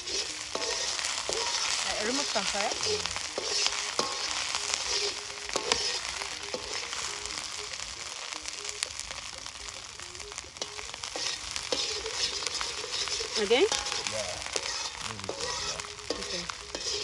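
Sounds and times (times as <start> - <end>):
paste sizzling in hot oil: 0.0 - 17.0
sharp clicks and crackles: 0.0 - 17.0.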